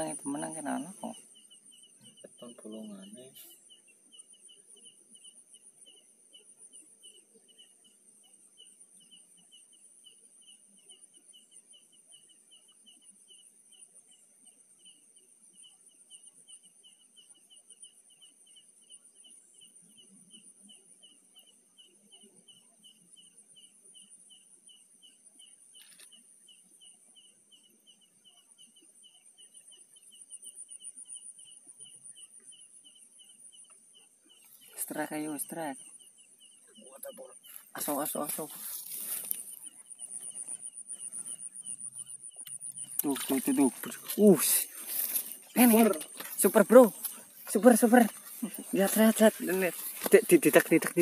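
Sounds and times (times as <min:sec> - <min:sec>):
cricket chirping: 0:00.0 - 0:51.0
high-pitched insect trill: 0:00.0 - 0:51.0.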